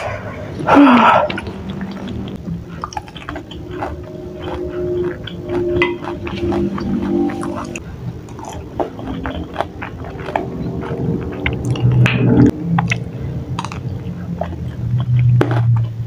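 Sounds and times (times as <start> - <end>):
low hum: 0.0 - 16.0
wet chewing and mouth smacks: 1.2 - 16.0.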